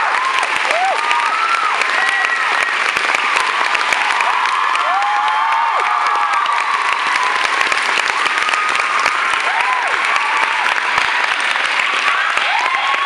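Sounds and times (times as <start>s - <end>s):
audience applauding: 0.0s - 13.0s
high-pitched cheers: 0.0s - 13.0s.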